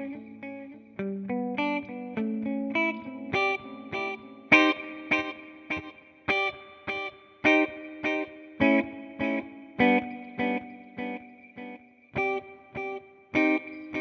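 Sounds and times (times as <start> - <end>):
electric guitar with delay: 0.0 - 14.0.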